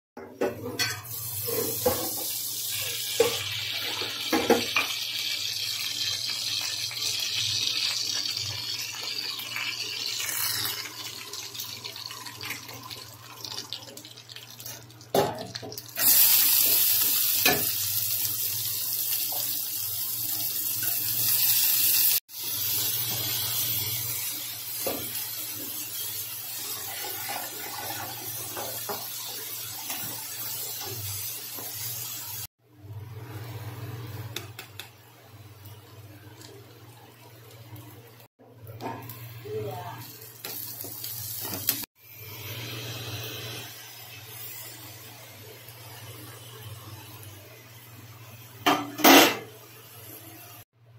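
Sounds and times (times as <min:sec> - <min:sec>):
oil sizzling in a pan: 0:00.6 - 0:50.8
onions frying with loud hiss: 0:01.0 - 0:13.2, 0:13.8 - 0:32.5, 0:33.2 - 0:50.7.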